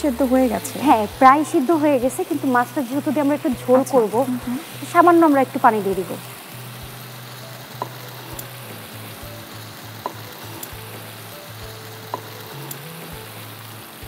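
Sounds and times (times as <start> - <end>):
curry sizzling in a frying pan: 0.0 - 14.0.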